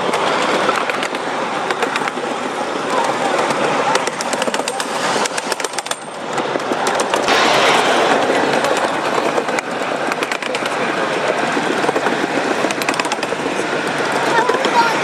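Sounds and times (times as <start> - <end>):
wheels clicking over track: 0.0 - 7.4, 8.3 - 15.0
miniature train rattling: 0.0 - 15.0.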